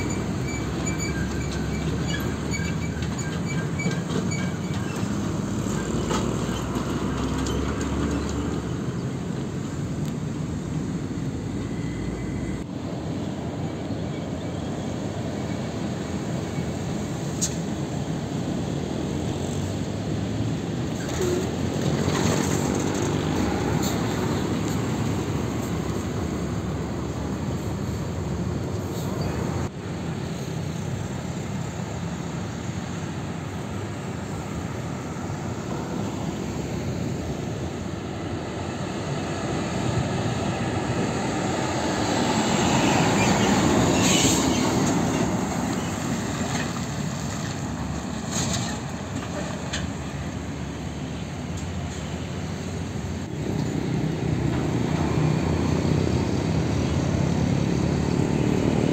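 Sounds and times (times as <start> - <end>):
highway traffic passing: 0.0 - 58.9.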